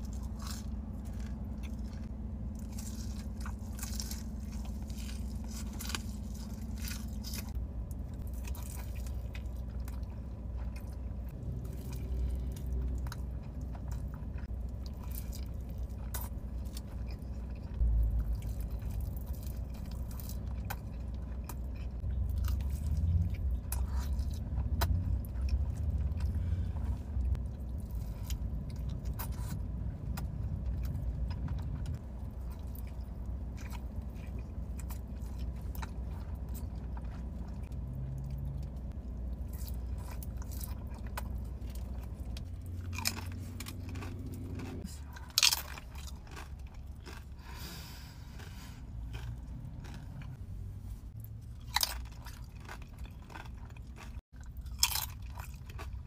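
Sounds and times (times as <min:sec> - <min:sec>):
chewing and biting: 0:00.0 - 0:50.4, 0:51.1 - 0:56.0
car interior rumble: 0:00.0 - 0:54.1.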